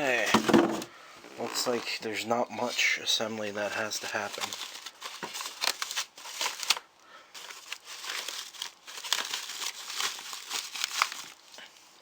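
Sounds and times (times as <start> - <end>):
packaging crinkling and rustling: 0.0 - 2.8, 3.5 - 12.0.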